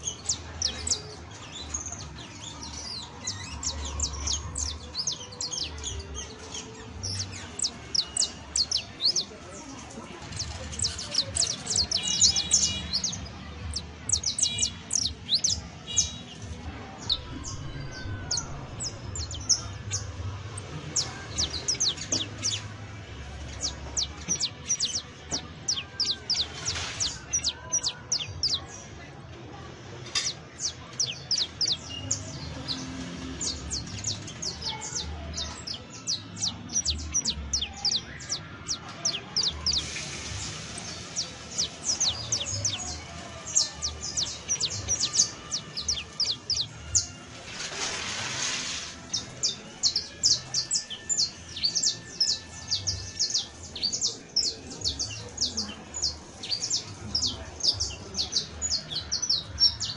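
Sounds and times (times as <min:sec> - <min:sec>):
finch singing: 0:00.0 - 0:28.9, 0:30.0 - 0:59.9.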